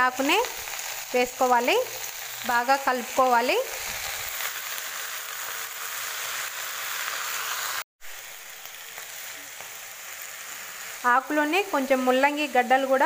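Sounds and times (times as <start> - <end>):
leaves frying in hot oil: 0.0 - 13.0.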